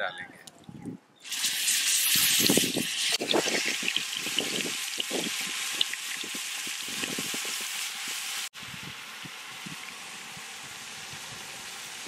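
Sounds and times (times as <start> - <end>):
chicken sizzling in hot oil: 1.2 - 12.0.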